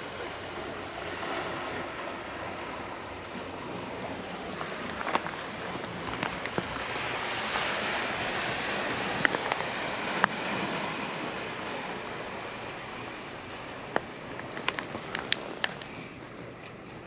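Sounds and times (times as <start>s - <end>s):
sea surf washing: 0.0s - 17.0s.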